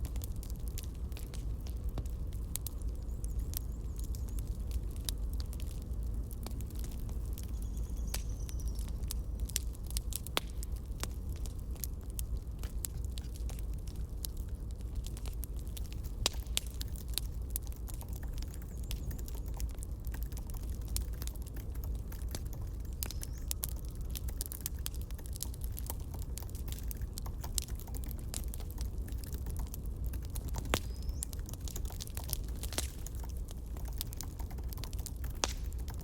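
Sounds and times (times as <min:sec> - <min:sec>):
campfire crackling: 0:00.0 - 0:36.0
low rumble of fire: 0:00.0 - 0:36.0.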